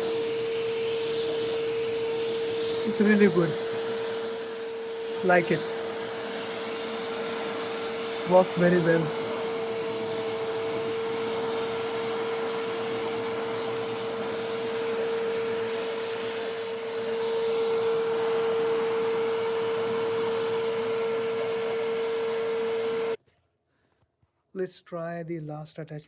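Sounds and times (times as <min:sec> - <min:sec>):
vacuum cleaner running: 0:00.0 - 0:23.2.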